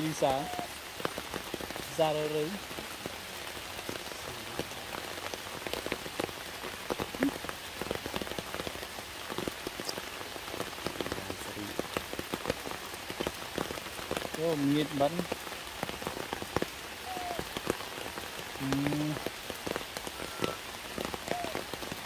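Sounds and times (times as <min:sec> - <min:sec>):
rain falling on leaves and rock: 0:00.0 - 0:22.0.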